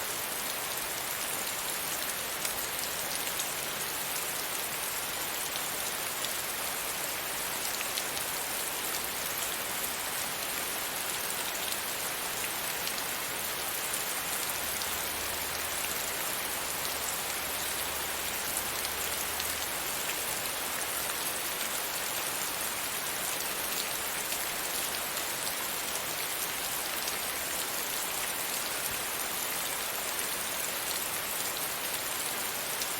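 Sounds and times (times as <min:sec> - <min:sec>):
rain falling: 0:00.0 - 0:32.9.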